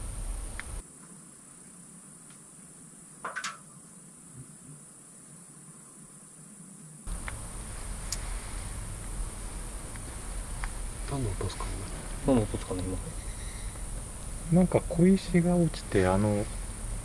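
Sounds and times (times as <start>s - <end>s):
night insects trilling: 0.0s - 17.0s.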